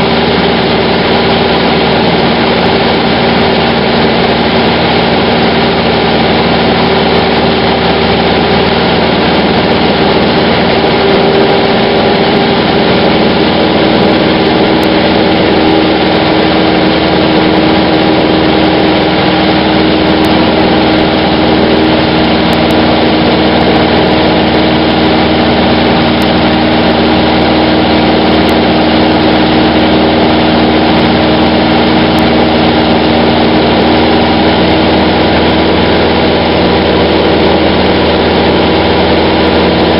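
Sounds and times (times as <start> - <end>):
airflow noise: 0.0 - 39.9
airplane engine and propeller drone: 0.0 - 39.9.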